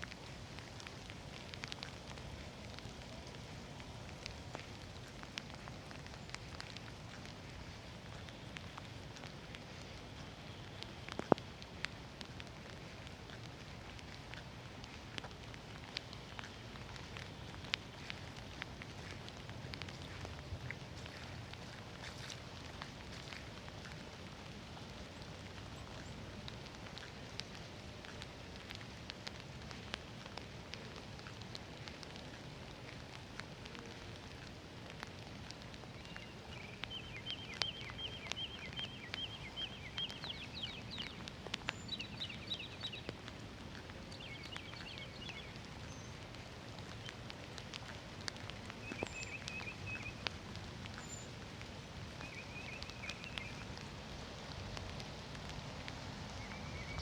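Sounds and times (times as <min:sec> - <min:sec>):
raindrops ticking close by: 0:00.0 - 0:57.0
steady rain: 0:00.0 - 0:57.0.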